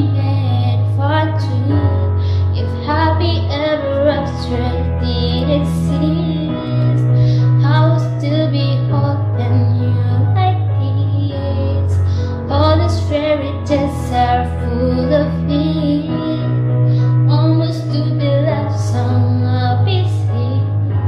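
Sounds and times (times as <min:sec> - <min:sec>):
backing track with bass notes: 0:00.0 - 0:21.0
woman singing wordless melody: 0:00.0 - 0:21.0.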